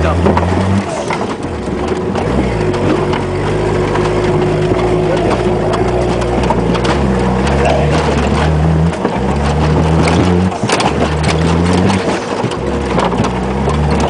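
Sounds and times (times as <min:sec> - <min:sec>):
car engine under load: 0:00.0 - 0:14.0
knocking and rattling: 0:00.0 - 0:14.0.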